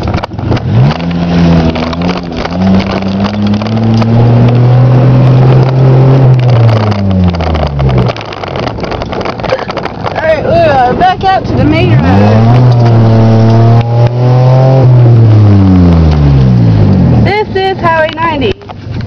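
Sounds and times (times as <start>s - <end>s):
car engine accelerating: 0.0s - 19.0s
tyre rumble on dirt road: 0.0s - 19.0s.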